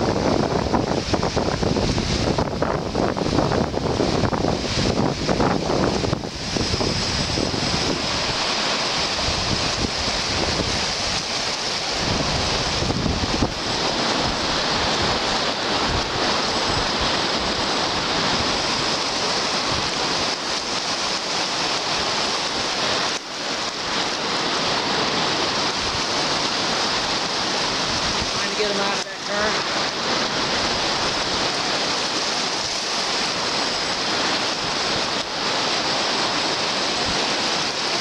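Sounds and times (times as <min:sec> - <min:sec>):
small lake waves washing: 0:00.0 - 0:38.0
wind buffeting microphone: 0:00.0 - 0:38.0.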